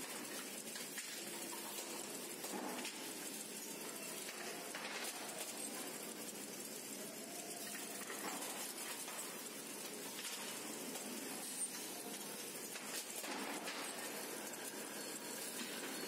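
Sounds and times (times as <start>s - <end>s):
faint metal clicks and clanks: 0.0s - 16.0s
hissing factory noise: 0.0s - 16.0s.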